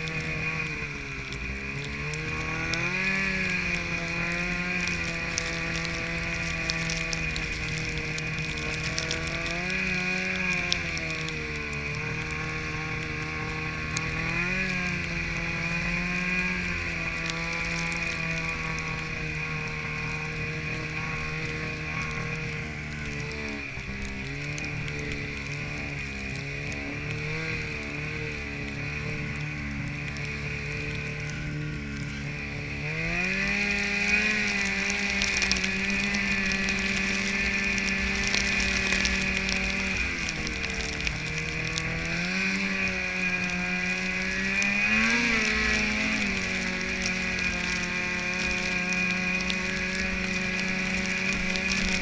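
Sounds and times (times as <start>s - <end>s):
sharp ticks: 0.0s - 52.0s
snowmobile engine running: 0.0s - 52.0s.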